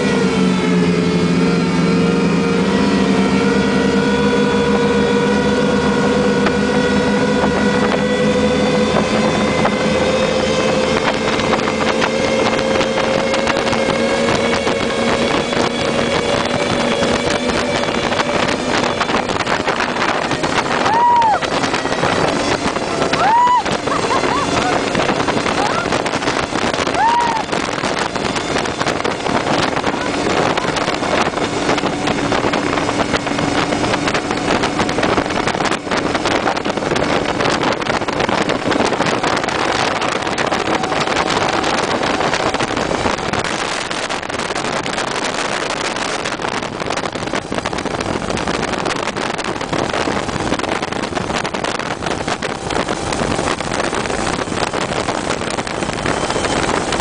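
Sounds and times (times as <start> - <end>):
motorboat running at speed: 0.0 - 57.0
wind on microphone: 0.0 - 57.0.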